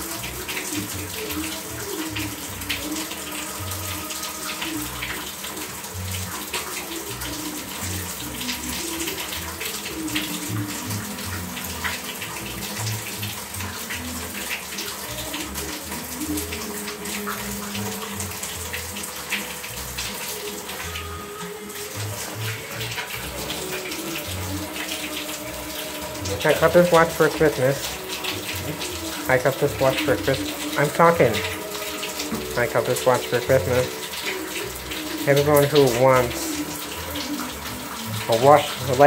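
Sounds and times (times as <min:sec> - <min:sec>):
tap water running into bathtub: 0:00.0 - 0:39.0.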